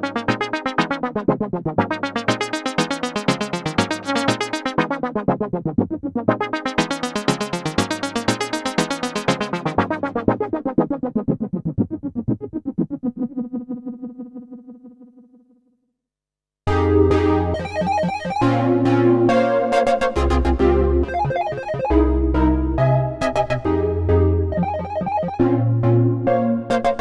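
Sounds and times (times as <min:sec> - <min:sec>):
synthesizer repeated notes: 0:00.0 - 0:15.1, 0:16.7 - 0:27.0.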